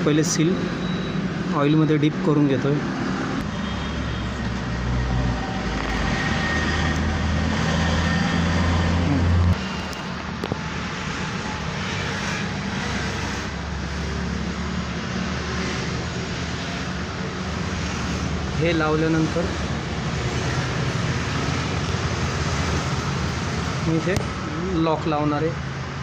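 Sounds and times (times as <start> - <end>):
engine-like drone: 1.9 - 24.8.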